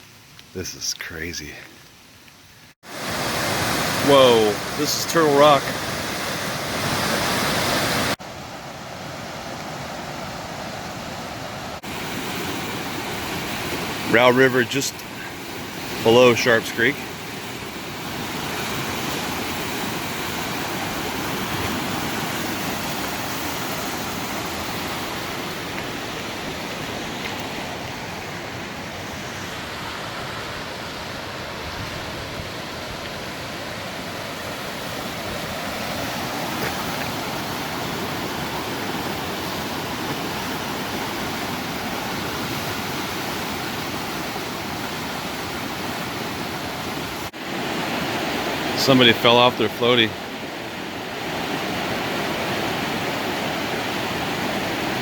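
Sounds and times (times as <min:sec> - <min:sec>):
river rushing in flood: 0:02.8 - 0:55.0.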